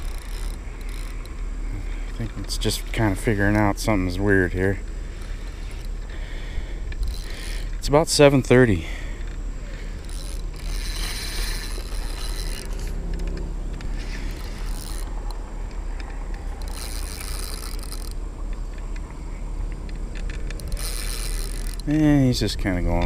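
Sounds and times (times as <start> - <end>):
fishing reel ratcheting: 0.0 - 19.0, 19.9 - 23.0.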